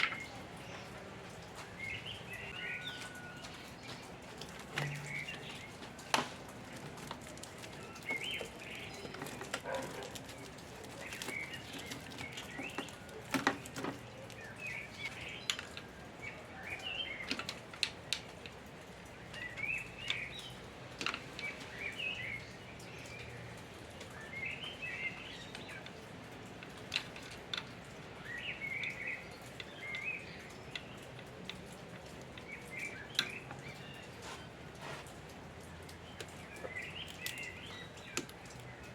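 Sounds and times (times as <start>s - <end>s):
birds singing: 0.0s - 38.9s.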